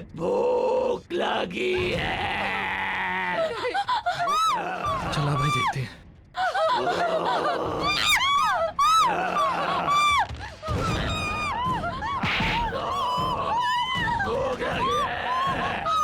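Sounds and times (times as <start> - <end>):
eerie horror music: 0.0 - 16.0.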